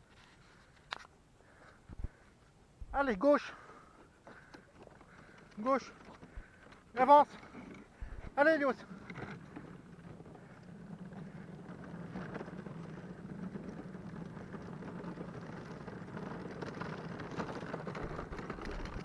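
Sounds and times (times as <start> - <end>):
cart wheels rolling on pavement: 3.0 - 19.0.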